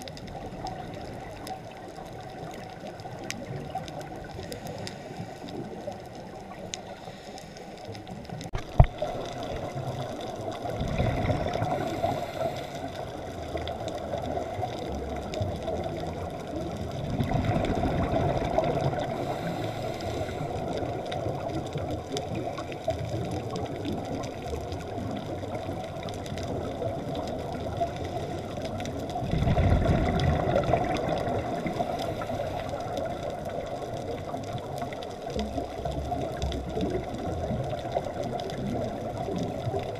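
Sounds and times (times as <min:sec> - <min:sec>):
low bubbling rumble: 0:00.0 - 0:07.3, 0:07.9 - 0:39.9
underwater bubbles hissing: 0:00.0 - 0:39.9.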